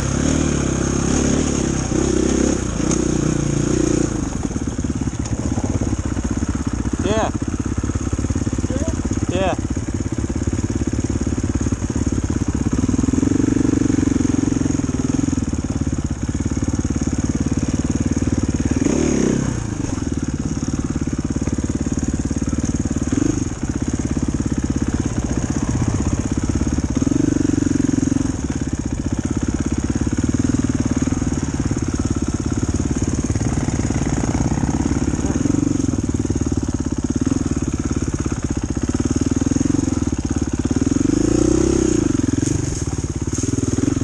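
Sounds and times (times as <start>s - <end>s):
dirt bike engine idling: 0.0s - 44.0s.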